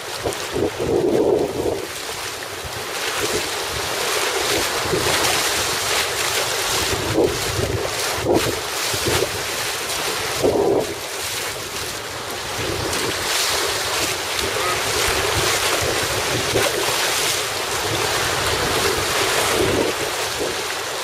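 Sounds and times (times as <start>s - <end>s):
water rushing: 0.0s - 21.0s
wind buffeting microphone: 0.0s - 21.0s.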